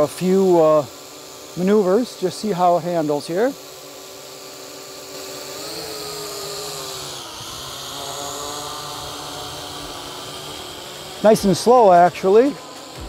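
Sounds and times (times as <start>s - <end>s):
drone motors and propellers buzzing: 0.0s - 13.0s.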